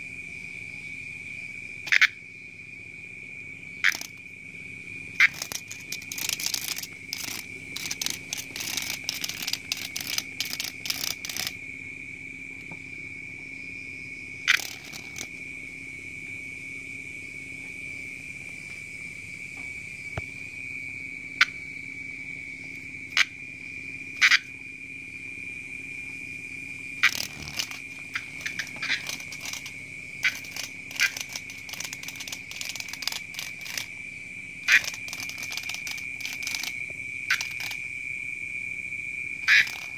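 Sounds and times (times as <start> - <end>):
night insects drone: 0.0 - 39.9.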